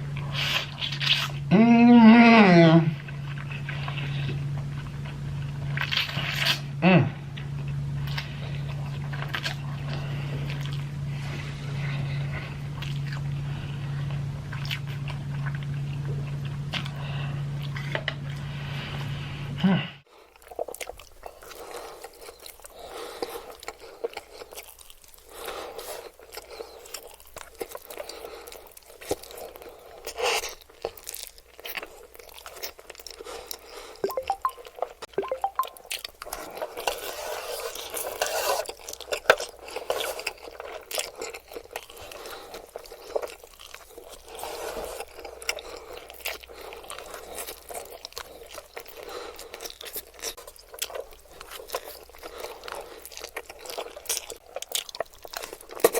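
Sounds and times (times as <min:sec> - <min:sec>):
person chewing noodles: 0:00.0 - 0:01.6, 0:02.9 - 0:19.2, 0:20.1 - 0:55.9.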